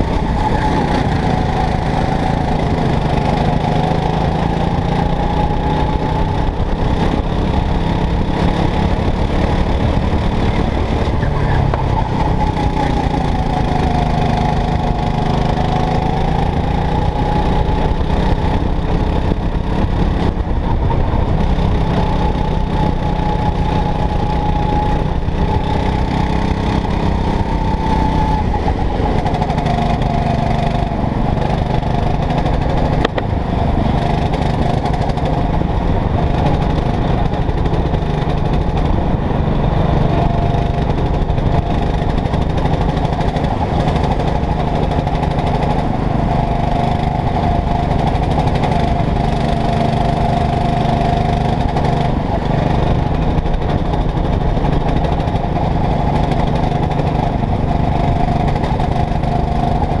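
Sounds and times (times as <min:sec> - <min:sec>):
go-kart engine running hard: 0:00.0 - 1:00.0.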